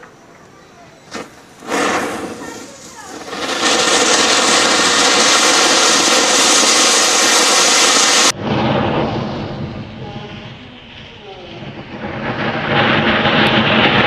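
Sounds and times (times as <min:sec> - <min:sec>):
firework spraying sparks hissing: 0:01.0 - 0:14.0
dull rush: 0:01.1 - 0:14.0.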